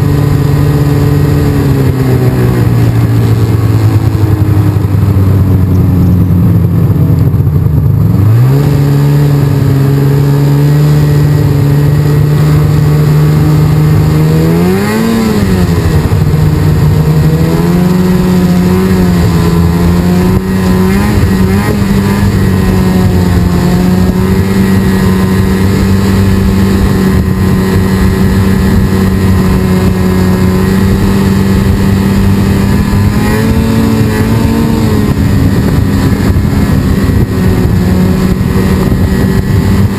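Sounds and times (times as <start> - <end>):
snowmobile engine under throttle: 0.0 - 39.9.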